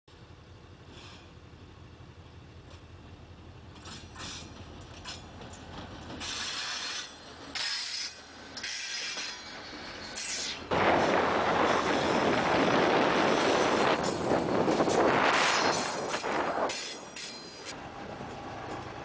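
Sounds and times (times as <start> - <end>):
diesel locomotive engine: 0.1 - 19.0
wheels on rail: 0.1 - 19.0.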